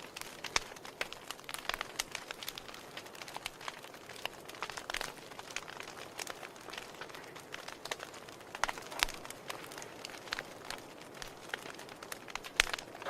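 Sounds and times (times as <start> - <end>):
logs hissing: 0.0 - 13.0
wood fire crackling: 0.0 - 13.0.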